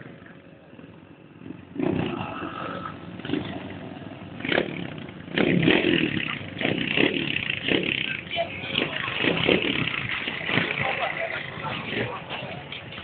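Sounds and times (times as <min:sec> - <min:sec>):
motorcycle engine running rough: 0:00.0 - 0:13.0.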